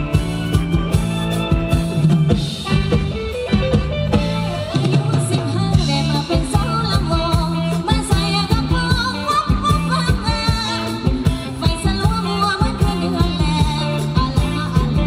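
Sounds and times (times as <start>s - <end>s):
live dance band playing: 0.0s - 15.0s
steady drum beat: 0.0s - 15.0s.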